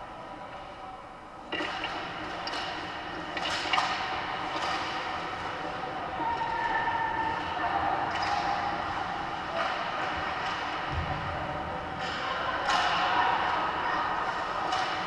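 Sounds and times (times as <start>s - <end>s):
hockey sticks and puck clacking: 1.5s - 15.0s.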